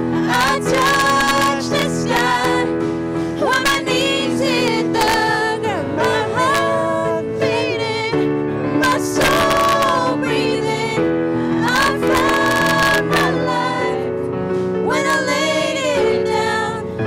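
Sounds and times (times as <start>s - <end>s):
piano chords: 0.0s - 17.0s
singers holding long notes: 0.0s - 17.0s.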